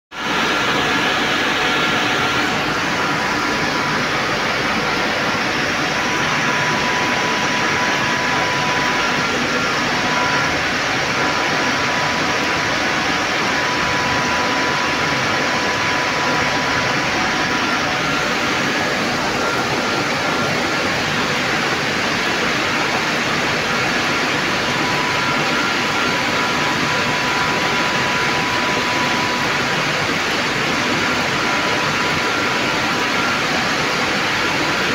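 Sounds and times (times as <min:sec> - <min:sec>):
faint high whining tones: 0:00.2 - 0:34.9.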